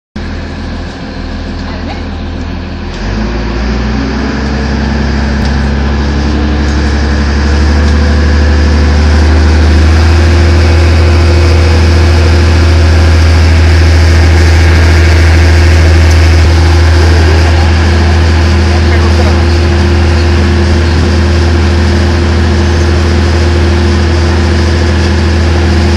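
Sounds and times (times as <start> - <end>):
boat engine humming: 0.2 - 25.9.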